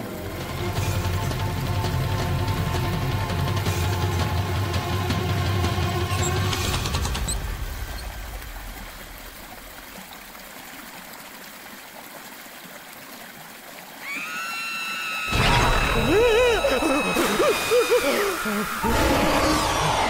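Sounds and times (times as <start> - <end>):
running water hiss: 0.0 - 20.0.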